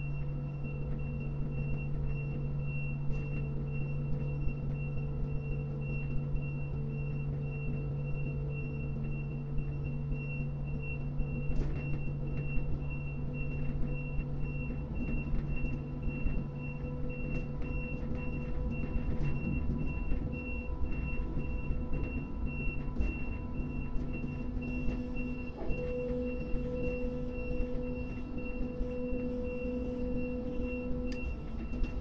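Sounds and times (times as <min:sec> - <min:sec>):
crane machinery hum and rumble: 0:00.0 - 0:32.0
mid-pitched hum: 0:00.0 - 0:32.0.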